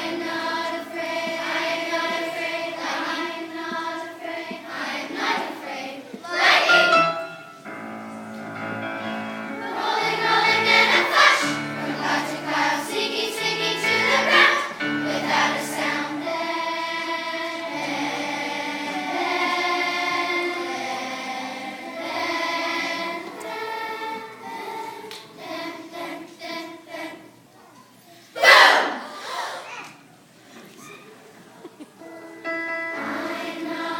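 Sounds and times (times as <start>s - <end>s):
children's choir singing: 0.0s - 27.6s, 28.2s - 29.6s, 32.0s - 33.9s.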